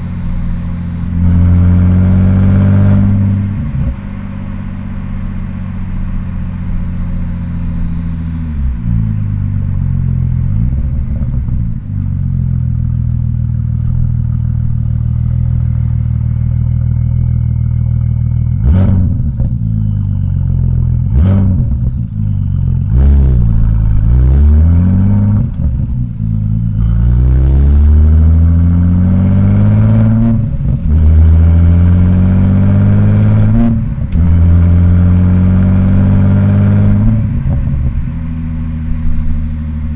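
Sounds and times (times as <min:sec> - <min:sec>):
car engine accelerating through gears: 0:00.0 - 0:39.9
high turbo whine: 0:00.0 - 0:39.9.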